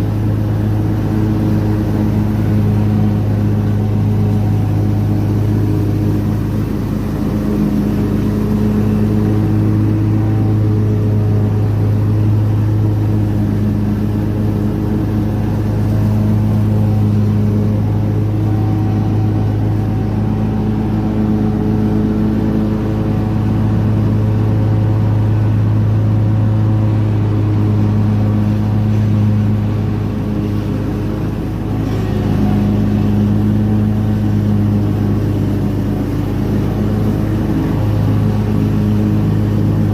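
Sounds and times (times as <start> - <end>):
ride-on lawn mower engine: 0.0 - 39.9.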